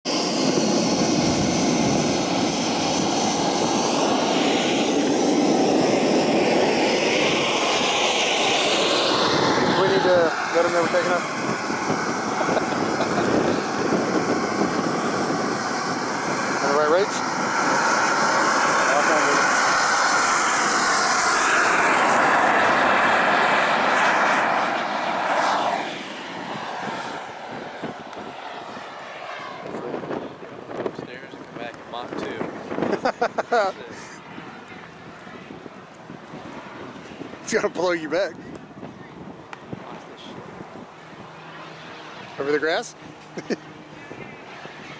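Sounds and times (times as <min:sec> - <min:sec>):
model jet engine whine: 0:00.1 - 0:44.9.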